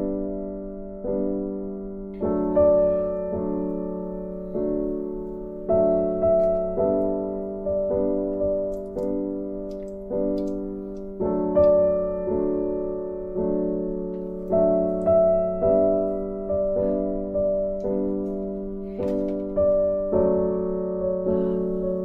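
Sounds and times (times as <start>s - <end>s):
slow keyboard chords: 0.0s - 22.0s.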